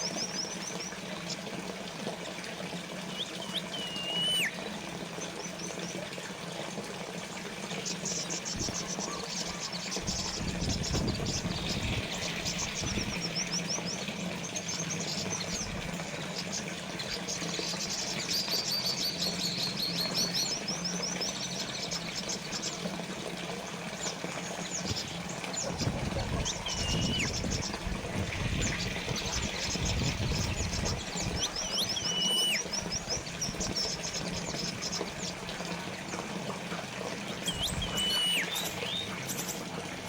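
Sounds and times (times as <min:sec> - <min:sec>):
water trickling from fountain: 0:00.0 - 0:40.0
small birds chirping: 0:03.0 - 0:06.0, 0:07.6 - 0:23.0, 0:23.7 - 0:36.3, 0:37.3 - 0:39.7.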